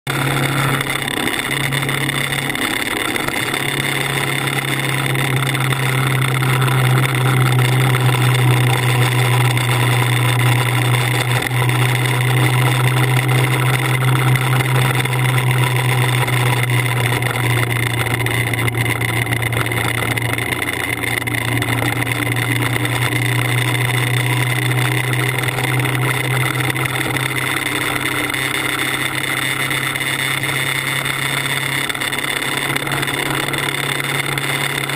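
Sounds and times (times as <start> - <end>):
motorcycle engine cruising: 0.1 - 34.9.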